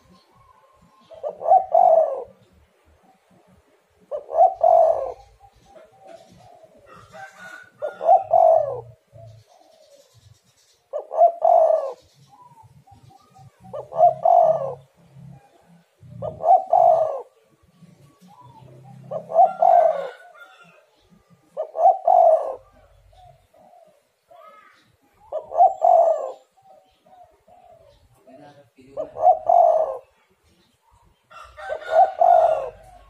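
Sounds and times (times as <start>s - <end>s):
dove cooing: 0.0s - 33.0s.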